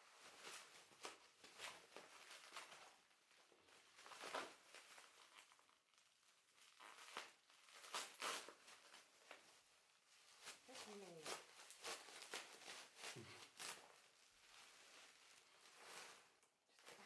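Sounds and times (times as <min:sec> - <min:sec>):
packaging crinkling: 0:00.2 - 0:17.0.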